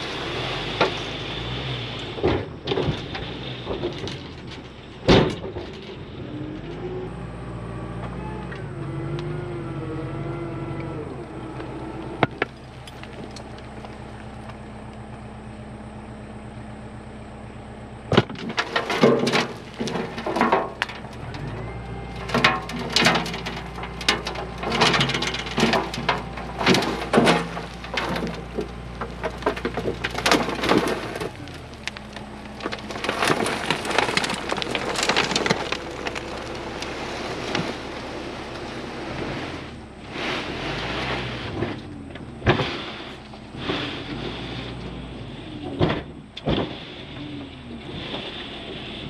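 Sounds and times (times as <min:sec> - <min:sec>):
diesel engine running: 0:00.0 - 0:49.0
rocks and dirt crunching: 0:00.0 - 0:49.0.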